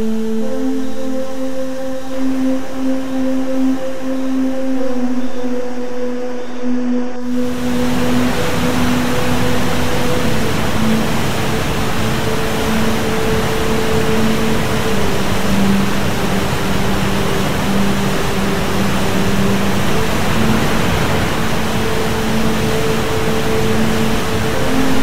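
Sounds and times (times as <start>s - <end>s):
large waterfall rushing: 0.0s - 6.3s, 7.3s - 25.0s.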